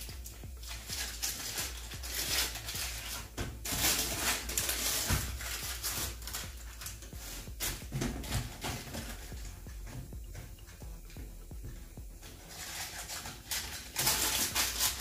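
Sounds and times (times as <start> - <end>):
parchment paper rustling: 0.0 - 10.8, 11.8 - 15.0.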